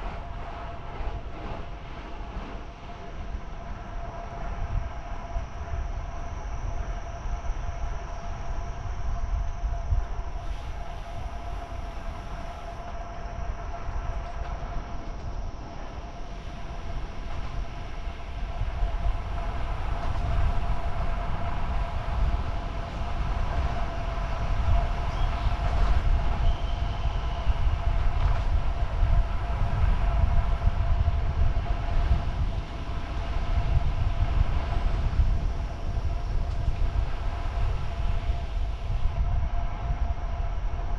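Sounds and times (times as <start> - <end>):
steady whine: 0.0 - 40.9
wind rumbling on microphone: 0.0 - 40.9.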